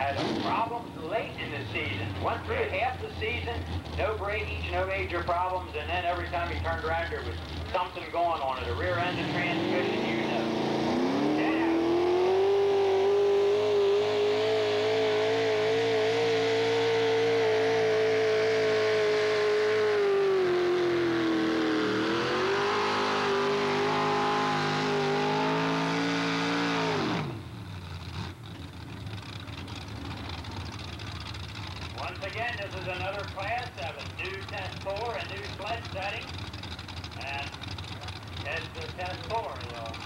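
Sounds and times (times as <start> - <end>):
tractor engine running hard: 0.0 - 40.0.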